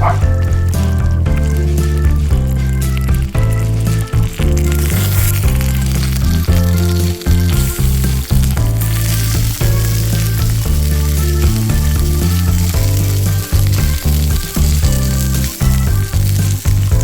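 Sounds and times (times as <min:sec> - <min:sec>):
background music: 0:00.0 - 0:17.0
food sizzling in frying: 0:00.0 - 0:17.0.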